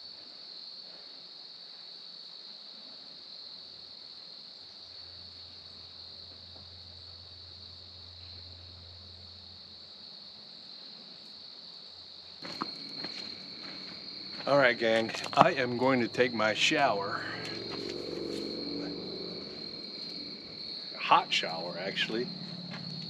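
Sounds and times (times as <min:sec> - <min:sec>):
insect chorus buzzing: 0:00.0 - 0:23.0
faint low hum: 0:02.6 - 0:23.0.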